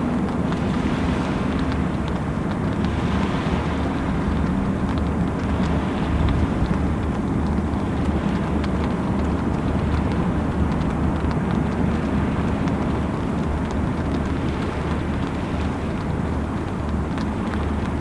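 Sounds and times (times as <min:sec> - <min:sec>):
heavy rain: 0:00.0 - 0:18.0
raindrops ticking near microphone: 0:00.0 - 0:18.0.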